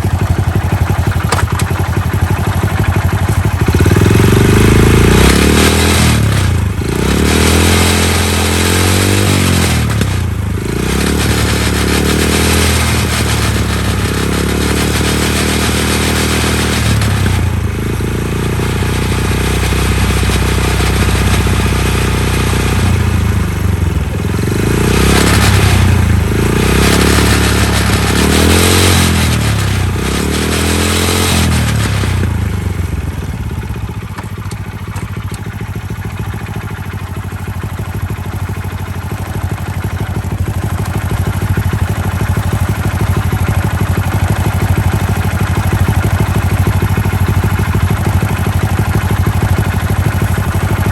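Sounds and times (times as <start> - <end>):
fast rattling clatter: 0.0 - 50.9
motorcycle engine idling and revving: 0.0 - 50.9.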